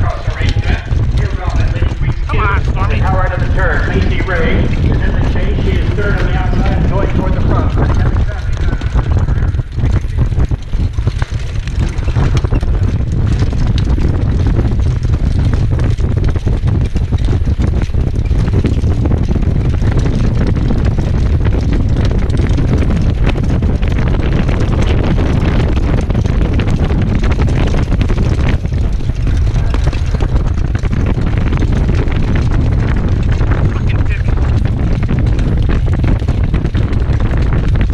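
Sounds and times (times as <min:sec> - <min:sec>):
heavy wind rumble on microphone: 0:00.0 - 0:37.9
hooves and wheels knocking on dirt: 0:00.0 - 0:37.9.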